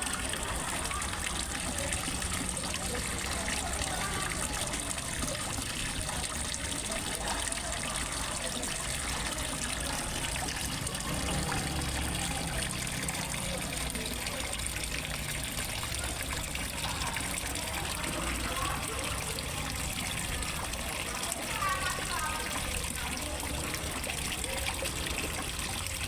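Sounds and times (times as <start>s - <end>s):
small waterfall splashing: 0.0s - 26.0s.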